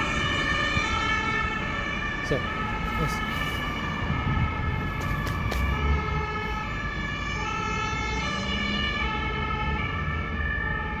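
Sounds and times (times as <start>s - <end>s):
rumble of engines and traffic: 0.0s - 11.0s
two-tone emergency siren: 0.0s - 11.0s.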